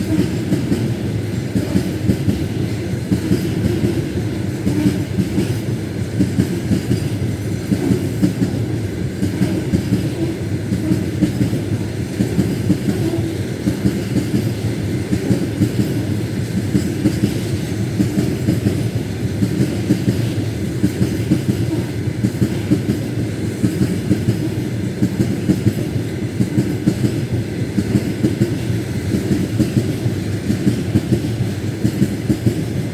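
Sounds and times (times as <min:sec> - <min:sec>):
train low rumble: 0:00.0 - 0:32.9
train wheels clattering over rail joints: 0:00.0 - 0:32.9.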